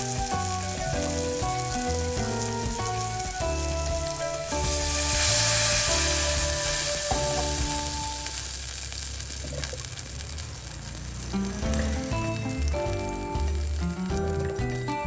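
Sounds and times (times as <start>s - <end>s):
background music: 0.0s - 8.5s, 11.3s - 15.0s
water sizzling in hot pan: 0.0s - 15.0s.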